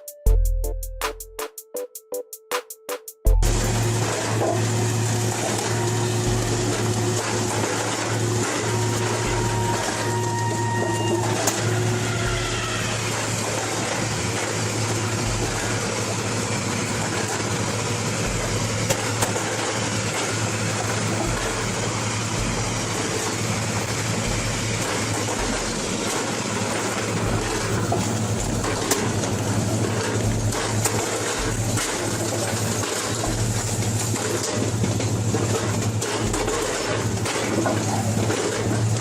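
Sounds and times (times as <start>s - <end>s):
heavy machinery engine drone: 3.3s - 39.0s
mechanical noise: 3.4s - 39.0s.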